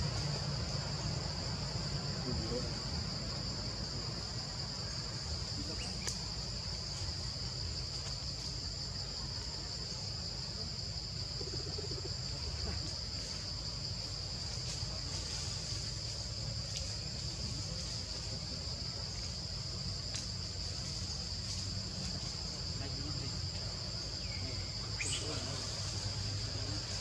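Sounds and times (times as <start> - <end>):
insect chorus chirring: 0.0 - 27.0.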